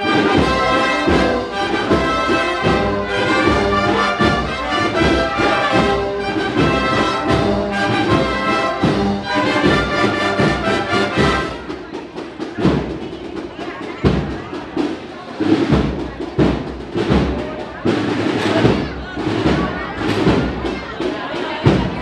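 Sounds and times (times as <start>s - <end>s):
brass band playing a march: 0.0s - 22.0s.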